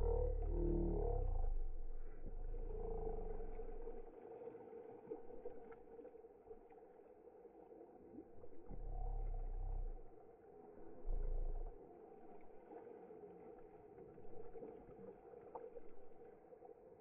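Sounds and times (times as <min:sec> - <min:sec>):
low rumble of water: 0:00.0 - 0:17.0
muffled pool water sloshing: 0:00.0 - 0:17.0.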